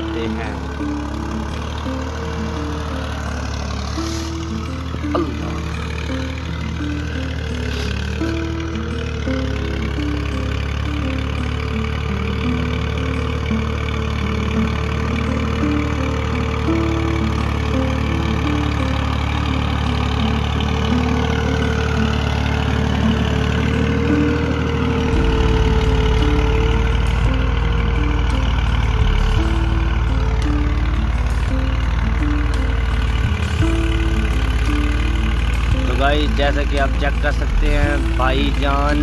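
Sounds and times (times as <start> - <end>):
tractor diesel engine running: 0.0 - 39.0
tune of stepped notes: 0.0 - 39.0.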